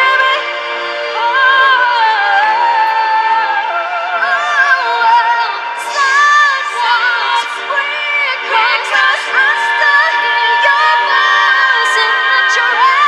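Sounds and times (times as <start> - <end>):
female vocal group singing: 0.0 - 13.0.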